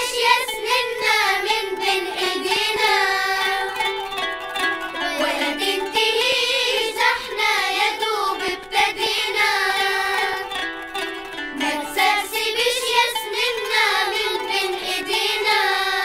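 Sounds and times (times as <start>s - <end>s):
children's choir singing: 0.0s - 16.0s
instrumental accompaniment: 0.0s - 16.0s.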